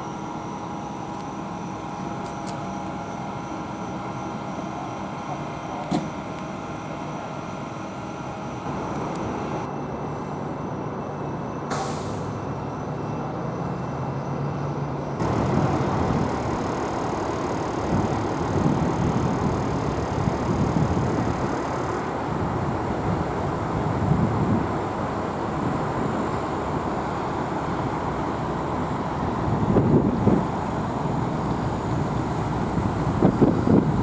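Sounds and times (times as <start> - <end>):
heavy vehicle engine running: 0.0 - 34.0
road traffic: 0.0 - 34.0.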